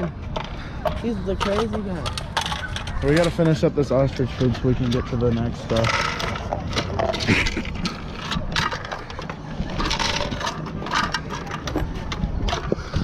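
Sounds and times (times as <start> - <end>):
ostriches pecking feed pellets: 0.0 - 13.0.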